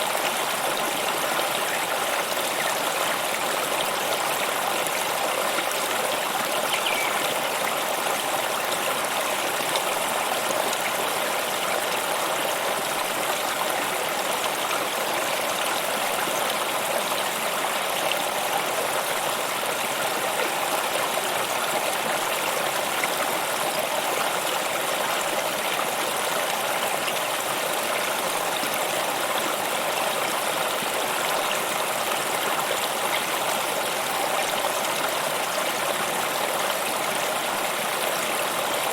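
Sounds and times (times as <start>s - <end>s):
stream of water flowing: 0.0s - 38.9s.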